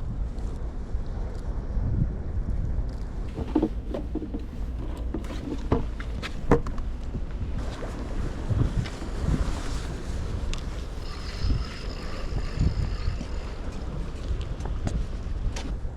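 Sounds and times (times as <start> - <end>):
wind buffeting microphone: 0.0 - 15.9.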